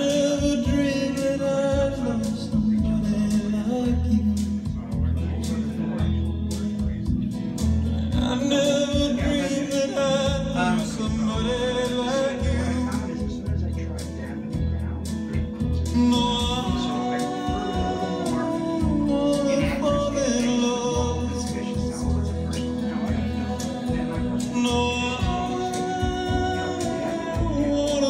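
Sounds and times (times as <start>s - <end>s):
deep bass notes: 0.0s - 28.0s
song with singing voice: 0.0s - 28.0s.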